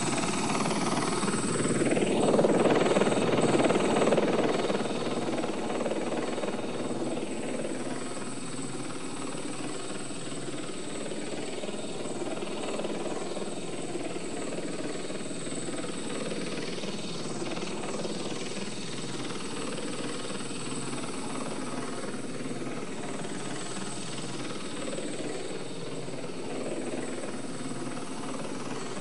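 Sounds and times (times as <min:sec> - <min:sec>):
helicopter rotor chop: 0:00.0 - 0:29.0.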